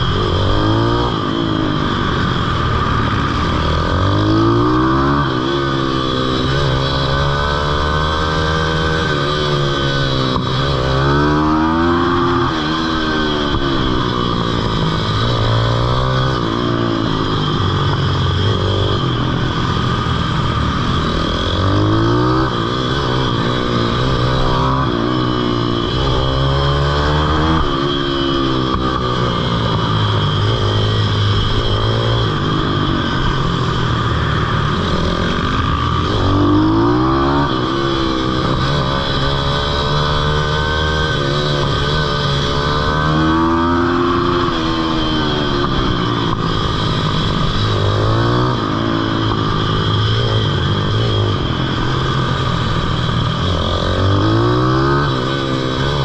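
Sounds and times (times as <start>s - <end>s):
small motorbike engine revving: 0.0s - 56.0s.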